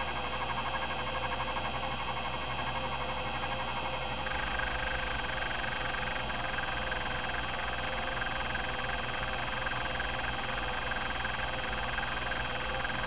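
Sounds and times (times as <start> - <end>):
hard drive platters whirring: 0.0 - 13.0.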